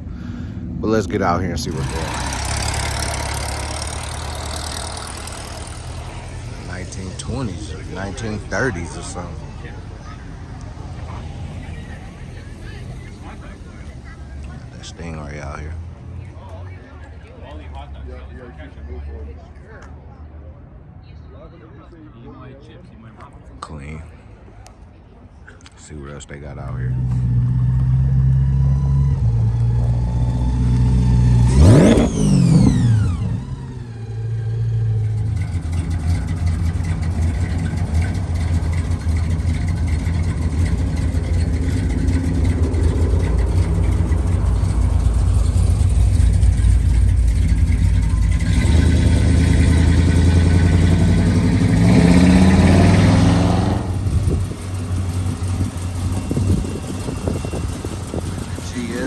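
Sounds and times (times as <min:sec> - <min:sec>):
car engine idling and revving: 0:00.0 - 0:19.2, 0:25.6 - 0:59.0.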